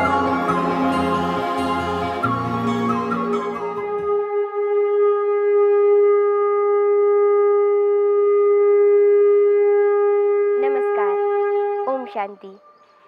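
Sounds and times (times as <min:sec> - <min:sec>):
held horn-like note: 0:00.0 - 0:12.2
intro music: 0:00.0 - 0:13.0.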